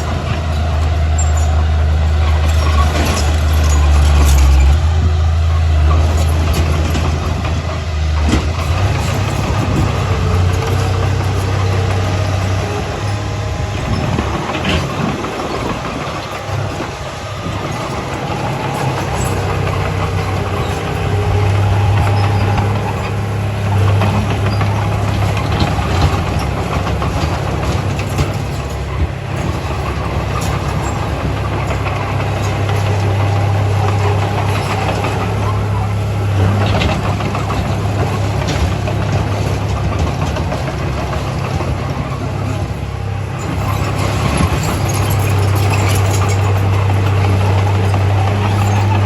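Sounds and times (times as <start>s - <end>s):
diesel machinery engine hum: 0.0s - 49.0s.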